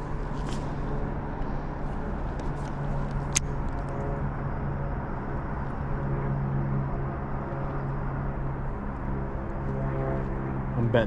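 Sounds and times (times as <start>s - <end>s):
low motor drone: 0.0s - 11.0s.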